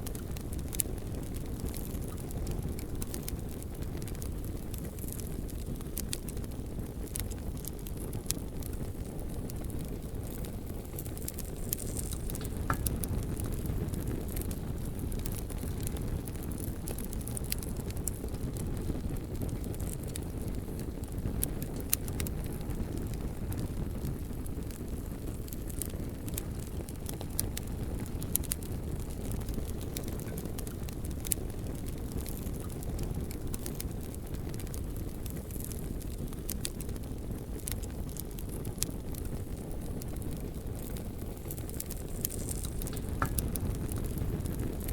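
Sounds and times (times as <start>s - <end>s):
bonfire flames rushing: 0.0s - 44.9s
wood crackling and popping: 0.0s - 44.9s.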